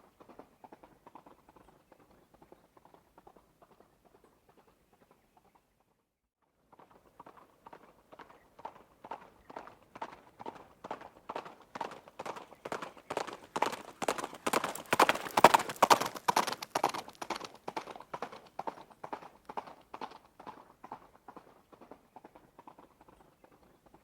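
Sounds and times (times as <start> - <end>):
horse hooves clip-clopping: 0.0 - 5.7, 6.7 - 24.0.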